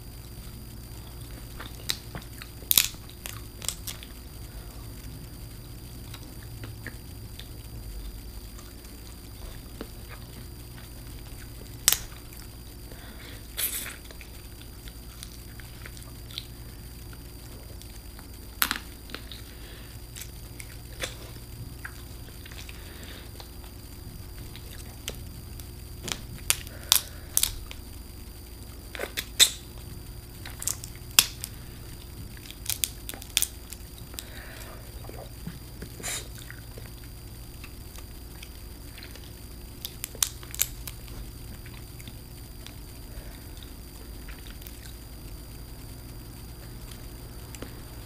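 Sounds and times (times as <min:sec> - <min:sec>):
seafood shells cracking and chewing: 0:01.3 - 0:04.2, 0:06.1 - 0:12.6, 0:13.6 - 0:23.8, 0:24.4 - 0:28.0, 0:28.9 - 0:45.3.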